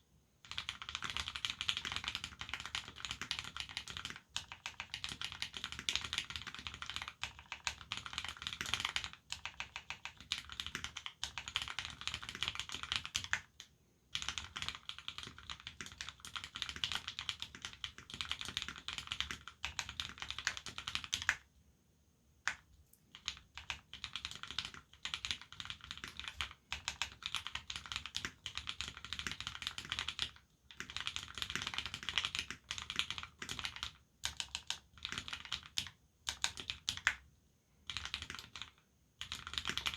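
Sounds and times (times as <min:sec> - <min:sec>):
mechanical keyboard typing: 0:00.4 - 0:21.4, 0:22.5 - 0:37.2, 0:37.8 - 0:39.9.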